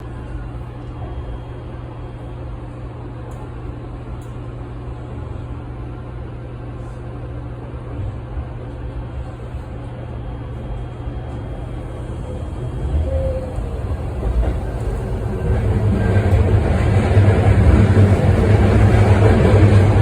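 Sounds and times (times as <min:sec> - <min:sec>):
train car rumble and hum: 0:00.0 - 0:20.0.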